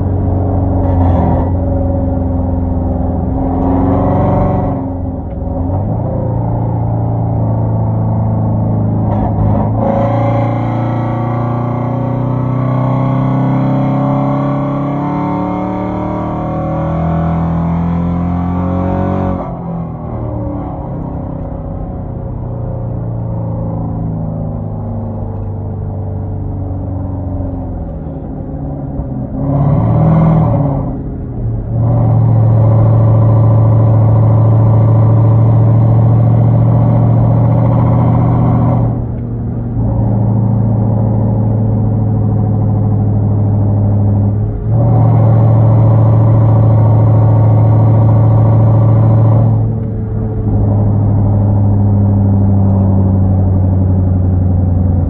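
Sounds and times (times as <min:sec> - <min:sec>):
car exhaust revving and droning: 0:00.0 - 0:55.0.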